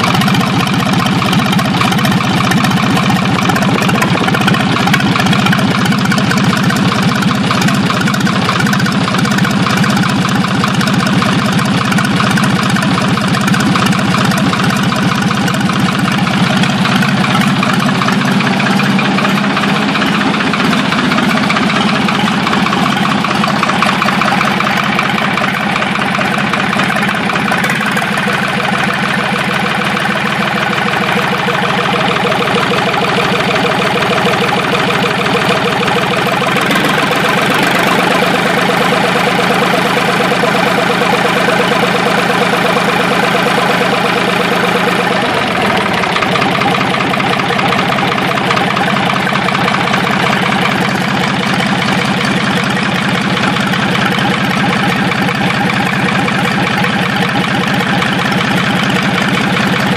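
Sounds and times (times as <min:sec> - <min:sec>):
tractor engine running: 0:00.0 - 0:59.9
valve train clattering rhythmically: 0:00.0 - 0:59.9.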